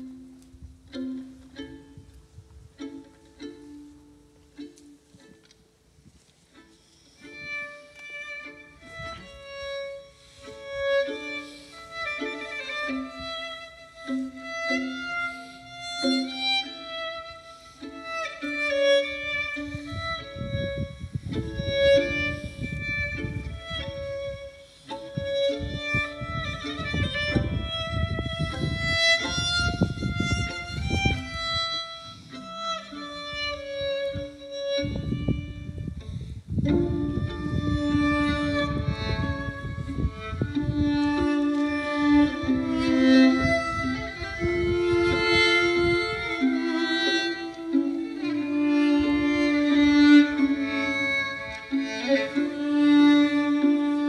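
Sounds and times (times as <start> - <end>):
violins slow melody: 0.0 - 54.0.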